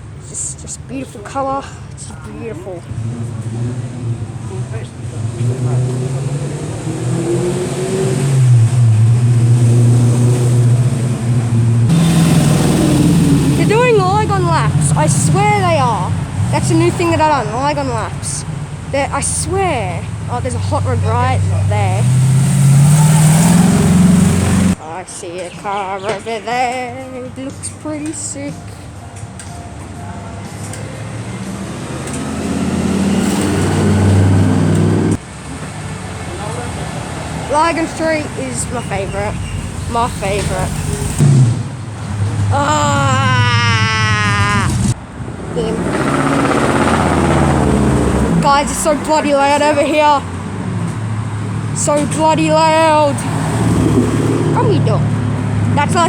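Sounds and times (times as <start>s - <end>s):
car engine running: 0.0s - 24.8s, 30.2s - 35.6s, 36.4s - 43.5s, 44.3s - 56.0s.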